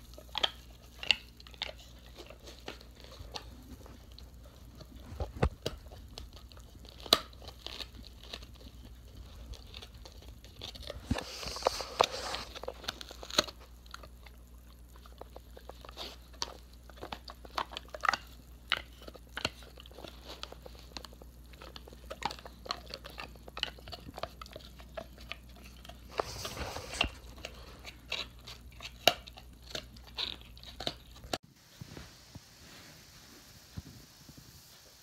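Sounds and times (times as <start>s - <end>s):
dog chewing: 0.0s - 31.4s.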